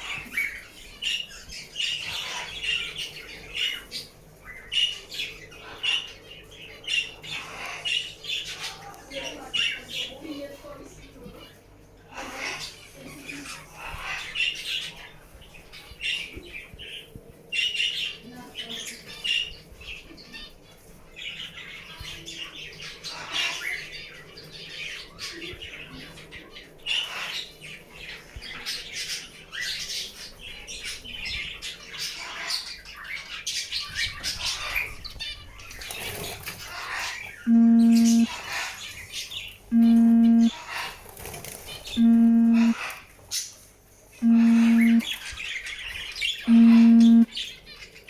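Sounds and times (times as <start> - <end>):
caged birds squawking: 0.0 - 48.0.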